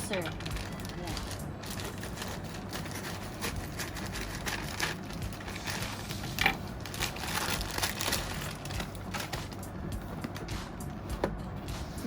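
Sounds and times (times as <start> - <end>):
packaging rustling and crinkling: 0.1 - 10.5.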